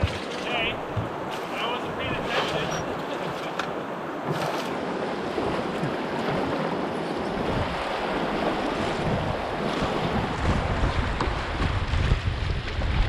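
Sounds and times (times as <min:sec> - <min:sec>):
river water rushing: 0:00.0 - 0:12.2
paddle strokes splashing: 0:00.0 - 0:13.0.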